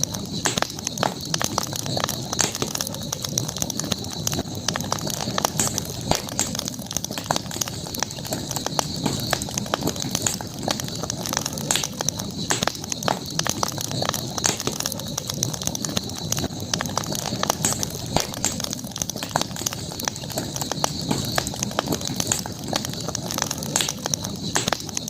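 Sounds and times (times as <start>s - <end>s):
burning wood popping: 0.0s - 25.0s
campfire crackling: 0.0s - 25.0s
steady high hiss: 0.0s - 25.0s.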